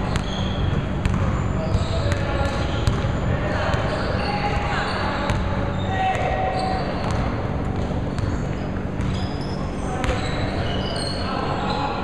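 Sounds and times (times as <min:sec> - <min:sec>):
basketball bouncing on court: 0:00.0 - 0:09.4, 0:10.0 - 0:10.4
sneakers squeaking: 0:00.0 - 0:12.0.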